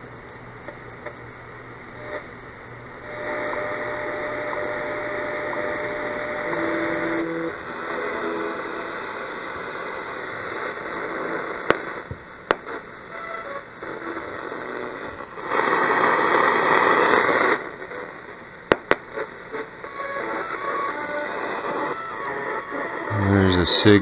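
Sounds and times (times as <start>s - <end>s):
radio static hiss: 0.0s - 24.0s
radio crackles: 1.8s - 24.0s
radio tone snatches: 3.0s - 24.0s.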